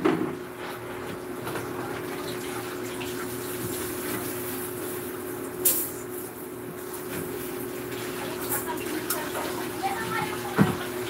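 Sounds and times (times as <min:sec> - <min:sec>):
water running from tap: 0:01.2 - 0:11.0.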